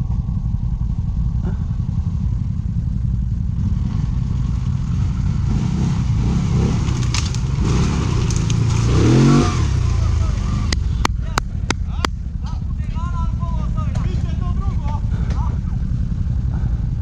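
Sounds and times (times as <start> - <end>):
quad engine rumbling: 0.0 - 17.0.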